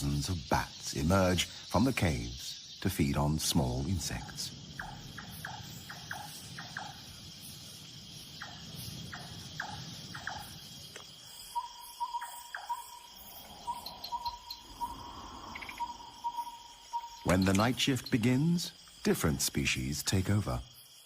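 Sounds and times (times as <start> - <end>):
crickets trilling: 0.0 - 21.0
pulsing high insect tone: 0.0 - 21.0.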